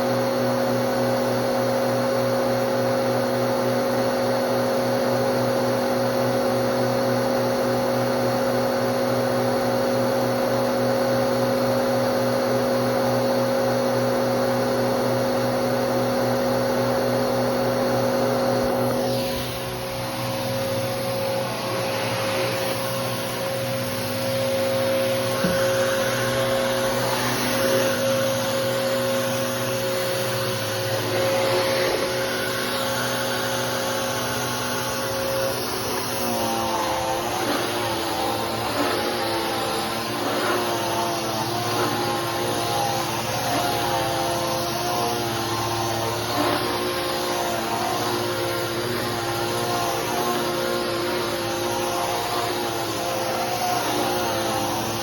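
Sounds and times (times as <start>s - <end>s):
vacuum cleaner motor hum: 0.0s - 55.0s.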